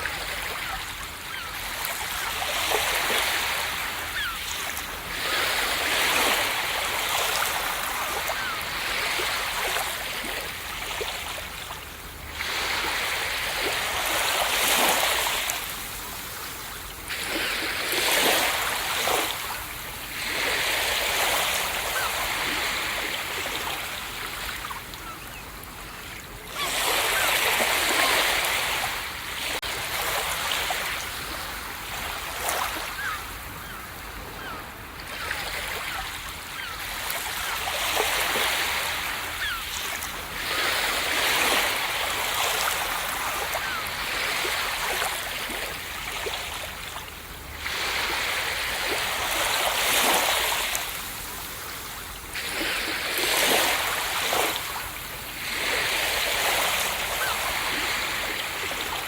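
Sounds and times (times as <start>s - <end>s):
ocean waves breaking: 0.0s - 25.3s, 26.4s - 59.0s.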